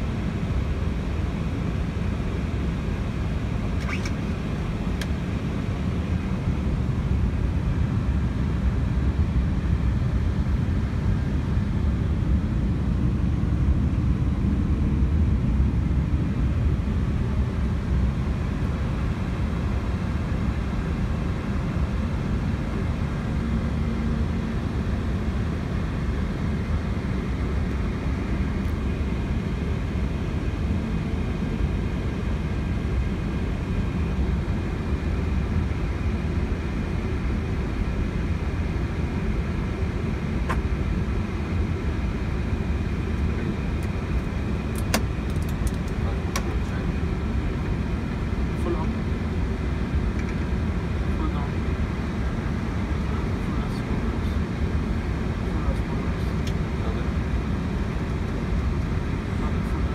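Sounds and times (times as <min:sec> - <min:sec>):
aircraft engines rumbling: 0:00.0 - 0:59.9
faint steady whine: 0:00.0 - 0:59.9.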